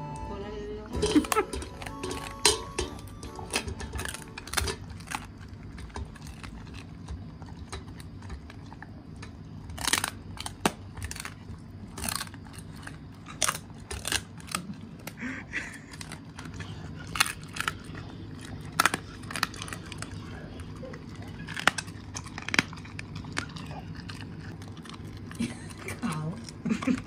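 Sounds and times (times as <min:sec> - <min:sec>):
dog crunching bones: 0:01.0 - 0:27.0.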